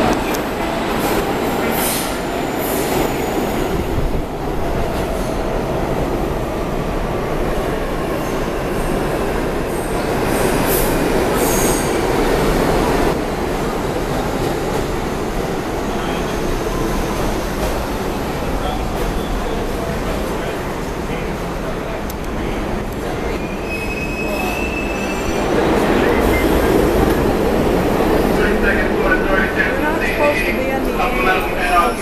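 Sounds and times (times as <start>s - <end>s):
subway train rumbling on rails: 0.0s - 32.0s.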